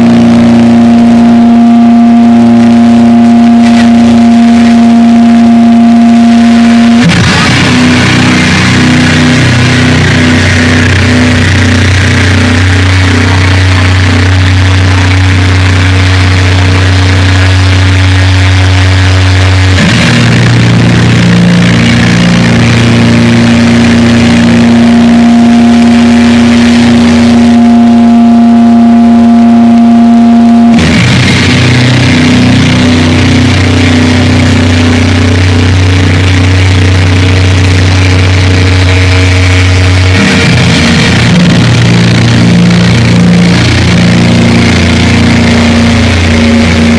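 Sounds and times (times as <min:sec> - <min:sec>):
distorted guitars and bass droning: 0:00.0 - 0:46.9.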